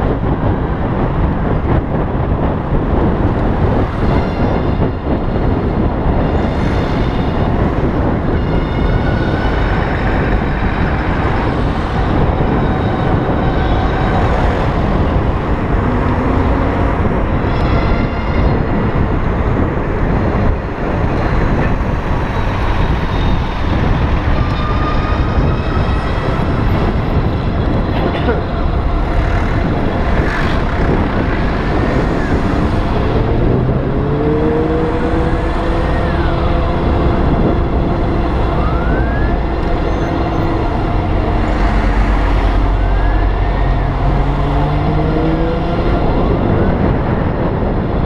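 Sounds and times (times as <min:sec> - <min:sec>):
wind and road noise: 0:00.0 - 0:48.0.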